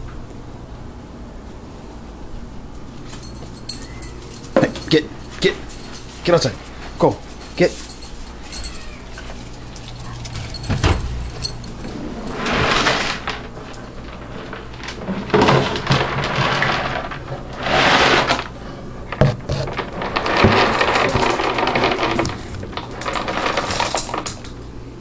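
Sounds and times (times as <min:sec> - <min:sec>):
dry food rustling and shaking: 0:03.1 - 0:18.6, 0:19.5 - 0:24.3.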